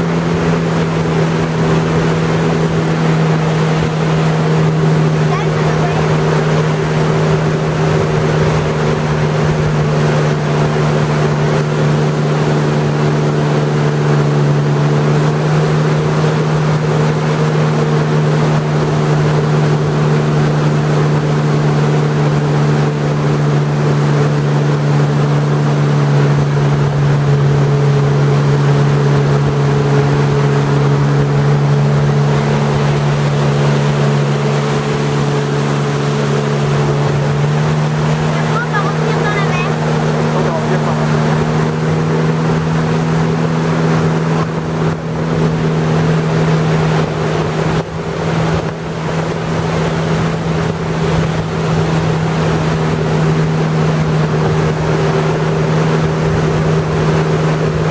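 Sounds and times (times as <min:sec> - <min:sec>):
jet ski engine drone: 0:00.0 - 0:57.9.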